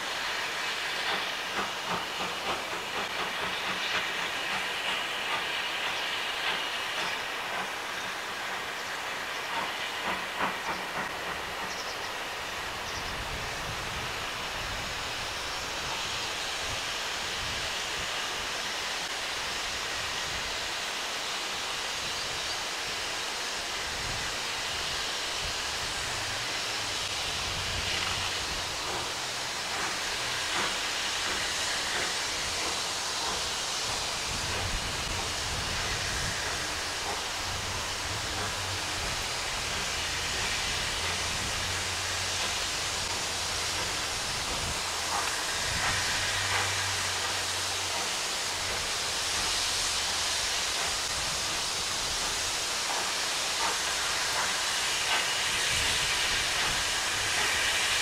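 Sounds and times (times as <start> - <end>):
locomotive engine drone: 0.0 - 58.0
steam hissing: 0.0 - 58.0.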